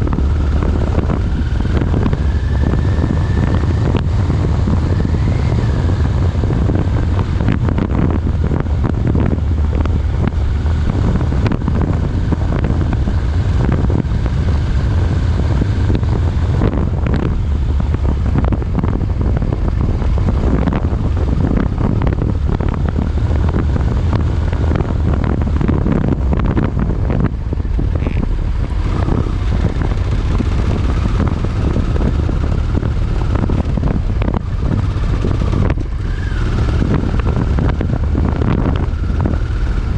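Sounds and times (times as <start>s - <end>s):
moving vehicle rumble: 0.0s - 39.9s
wind buffeting microphone: 0.0s - 39.9s.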